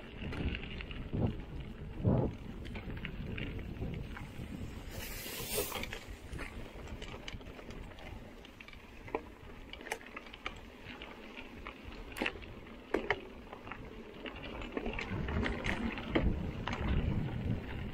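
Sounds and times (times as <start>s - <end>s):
bike tyres crunching on gravel: 0.0s - 17.9s
stones ticking and bike rattling: 0.0s - 17.9s
wind rumble on microphone: 0.0s - 17.9s.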